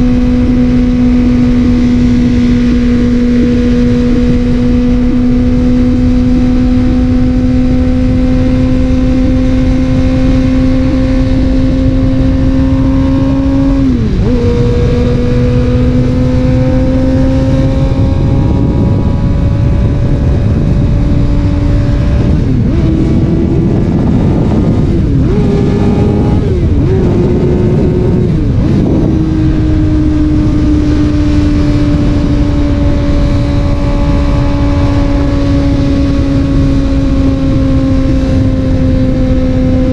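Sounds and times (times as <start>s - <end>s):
heavy rushing noise: 0.0s - 39.2s
motorcycle engine under way: 0.0s - 39.9s.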